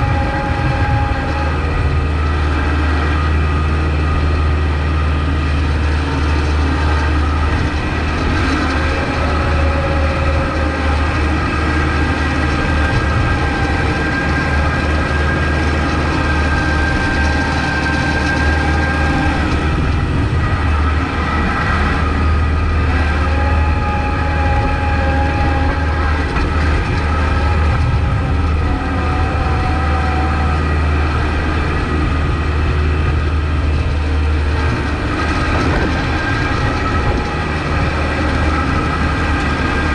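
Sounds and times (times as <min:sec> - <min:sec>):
high engine whine: 0:00.0 - 0:39.9
tractor diesel engine drone: 0:00.0 - 0:39.9.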